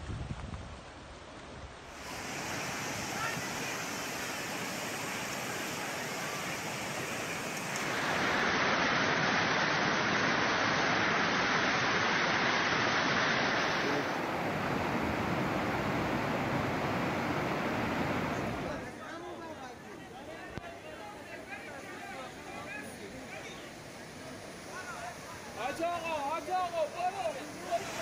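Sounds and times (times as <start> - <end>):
floodwater rushing through a street: 0.7 - 28.0.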